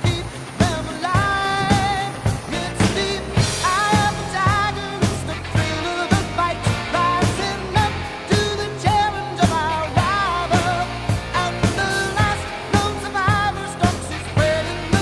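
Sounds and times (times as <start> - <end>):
drum beat: 0.0 - 15.0
person singing: 0.0 - 15.0.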